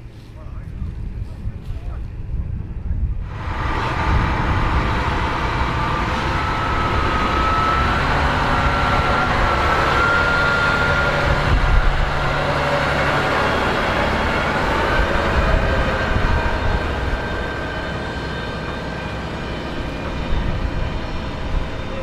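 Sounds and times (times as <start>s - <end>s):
tractor diesel engine running: 3.2s - 22.0s
thin whine rising in pitch: 3.3s - 22.0s.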